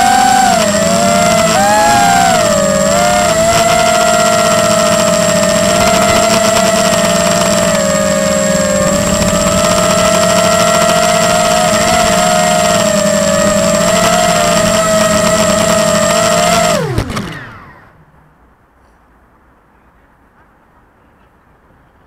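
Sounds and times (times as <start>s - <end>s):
drone motors whining: 0.0s - 18.1s.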